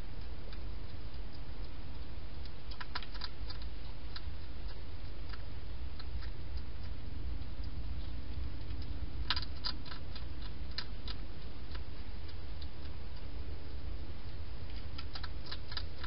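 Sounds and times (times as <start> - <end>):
low background hum: 0.0 - 16.0
hedgehog clicks and crunches: 0.2 - 16.0.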